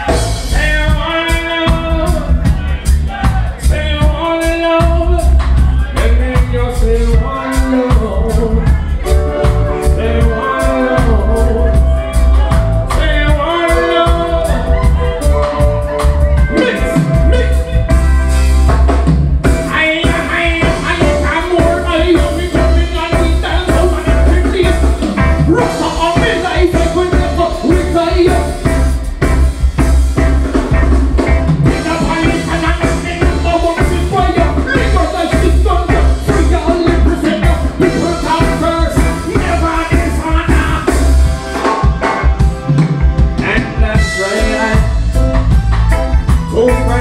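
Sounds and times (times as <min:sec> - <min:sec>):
man singing into microphone: 0:00.0 - 0:15.7, 0:16.4 - 0:17.9, 0:19.6 - 0:28.7, 0:31.6 - 0:41.2, 0:43.4 - 0:45.2, 0:46.5 - 0:47.0
heavy pulsing bass line: 0:00.0 - 0:47.0
reggae band playing: 0:00.0 - 0:47.0.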